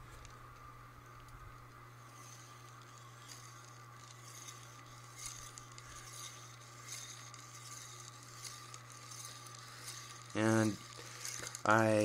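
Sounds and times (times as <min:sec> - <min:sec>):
low electrical hum: 0:00.0 - 0:12.0
toy wheel rolling on wire rail: 0:00.0 - 0:12.0.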